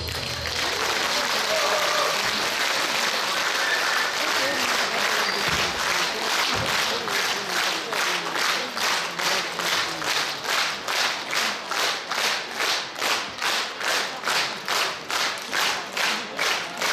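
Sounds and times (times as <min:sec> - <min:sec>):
audience clapping in unison: 0:00.0 - 0:16.9.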